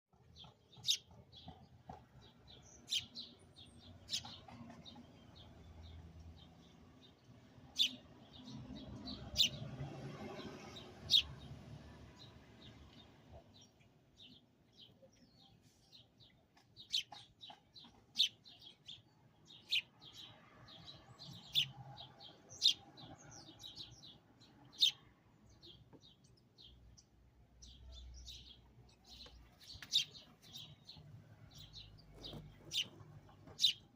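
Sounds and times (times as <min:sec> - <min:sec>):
sparrow chirping: 0:00.1 - 0:33.9.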